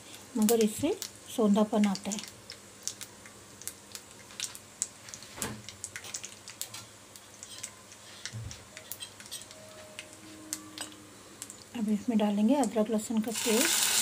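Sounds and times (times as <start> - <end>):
spices crackling in hot oil: 0.0 - 14.0.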